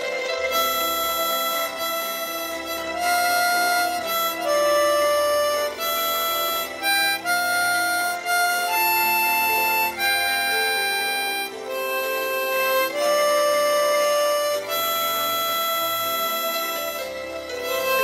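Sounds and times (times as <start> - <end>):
harmonica playing slow melody: 0.0 - 18.0.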